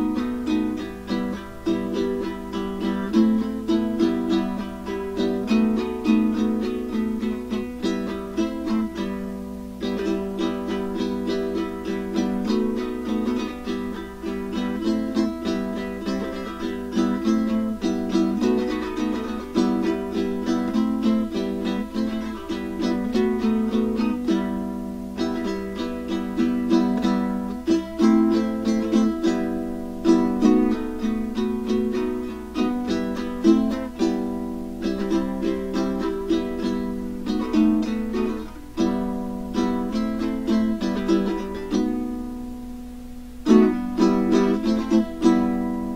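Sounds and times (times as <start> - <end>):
ukulele strumming chords: 0.0 - 45.9.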